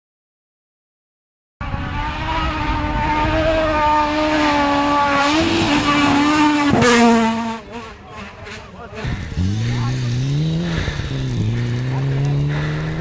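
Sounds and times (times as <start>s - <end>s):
rally car engine at high revs: 1.6s - 13.0s.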